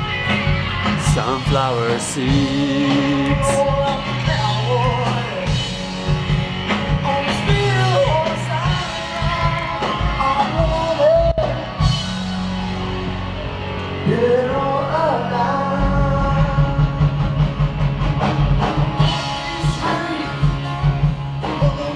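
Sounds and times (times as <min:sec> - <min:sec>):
drums beating: 0:00.0 - 0:21.9
rock music: 0:00.0 - 0:21.9.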